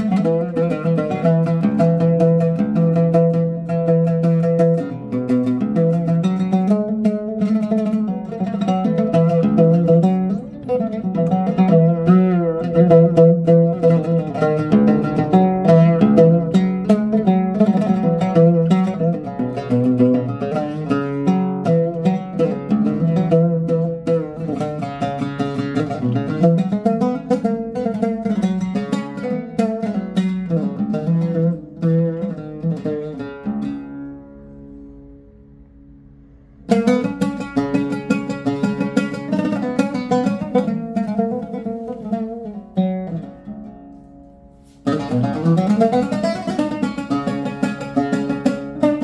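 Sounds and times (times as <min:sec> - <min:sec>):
solo oud plucked: 0:00.0 - 0:49.0.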